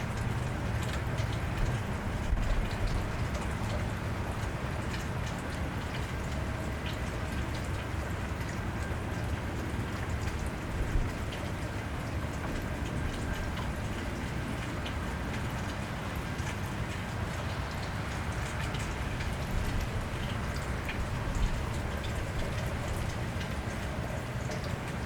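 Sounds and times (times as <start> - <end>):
close raindrop ticks: 0.0 - 25.0
rain on wet street: 0.0 - 25.0.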